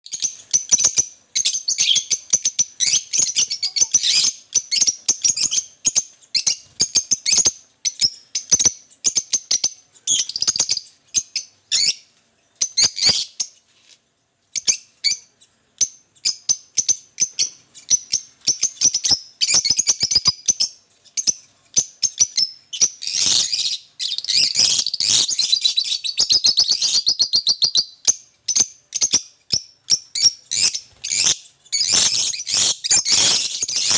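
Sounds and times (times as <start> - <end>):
lovebird chirping: 0.1 - 13.6, 14.5 - 33.9.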